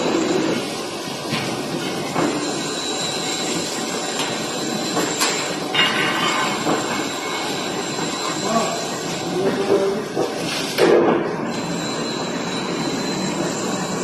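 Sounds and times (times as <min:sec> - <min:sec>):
plate rolling machine running: 0:00.0 - 0:14.0.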